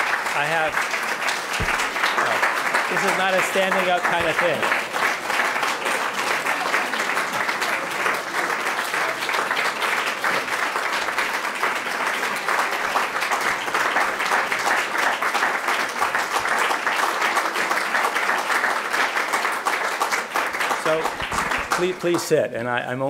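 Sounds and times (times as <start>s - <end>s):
audience applauding: 0.0s - 22.5s.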